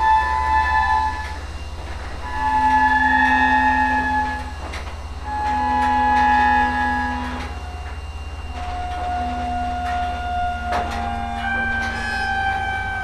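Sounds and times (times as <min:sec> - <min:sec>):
locomotive air horn blasts: 0:00.0 - 0:01.4, 0:02.2 - 0:13.0.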